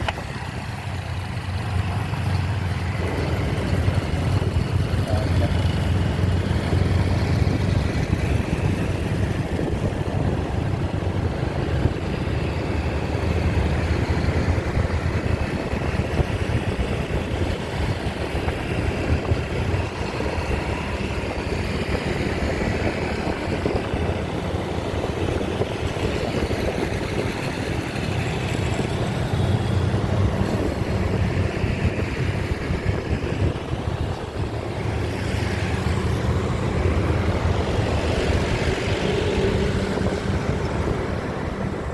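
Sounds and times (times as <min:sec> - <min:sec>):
road noise: 0:00.0 - 0:41.9
vehicle engine running: 0:00.0 - 0:41.9.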